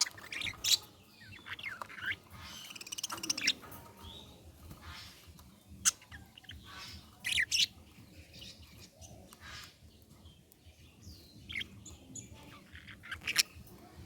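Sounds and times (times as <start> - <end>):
budgerigars chirping: 0.0 - 13.7.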